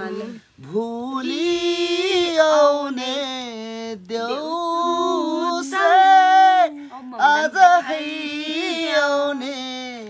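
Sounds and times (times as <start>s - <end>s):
man singing unaccompanied: 0.0s - 10.0s.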